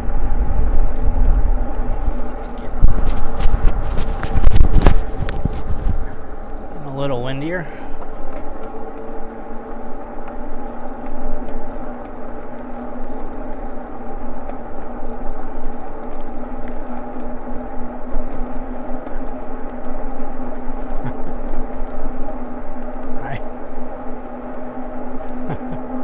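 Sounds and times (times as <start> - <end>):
e-bike motor and tyre hum: 0.0 - 26.0
low rumble: 0.0 - 26.0.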